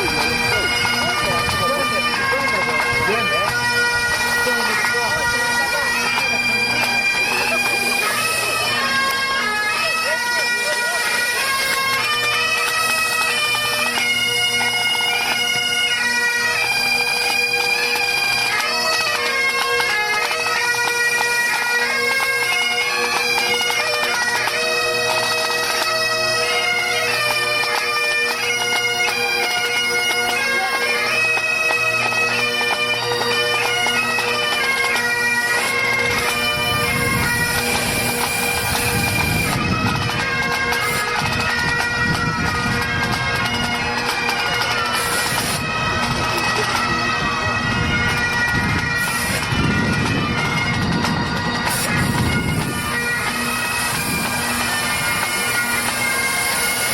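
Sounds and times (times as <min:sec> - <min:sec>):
bagpipes playing: 0:00.0 - 0:56.9.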